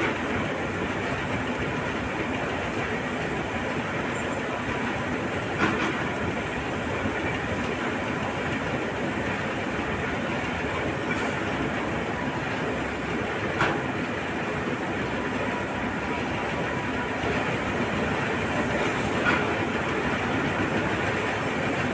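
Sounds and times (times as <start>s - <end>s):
heavy machinery engines rumbling: 0.0s - 21.9s.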